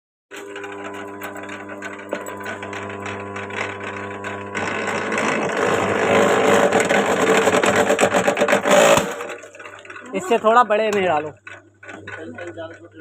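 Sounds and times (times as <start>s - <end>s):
wire stripping machine running: 0.3s - 13.0s.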